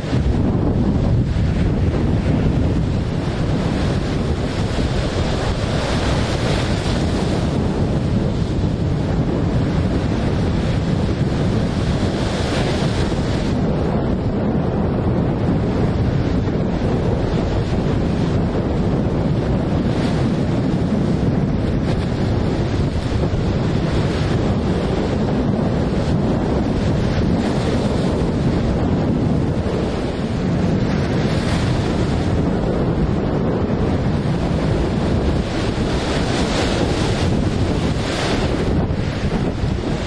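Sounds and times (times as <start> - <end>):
storm waves breaking: 0.0 - 40.0
wind buffeting microphone: 0.0 - 40.0.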